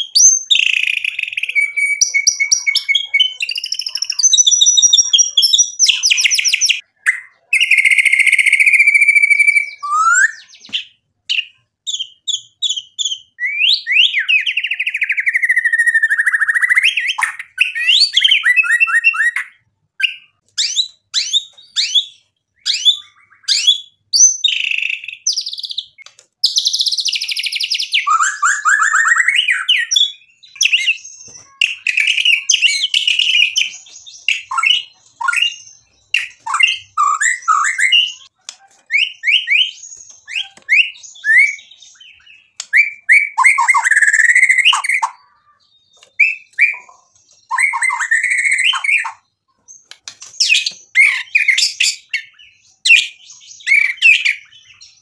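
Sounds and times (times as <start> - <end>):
bird singing loud whistles: 0.0 - 38.3, 38.9 - 45.2, 47.5 - 49.2.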